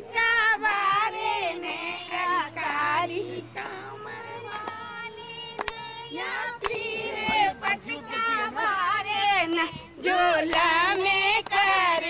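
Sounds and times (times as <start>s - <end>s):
women singing: 0.0s - 12.0s.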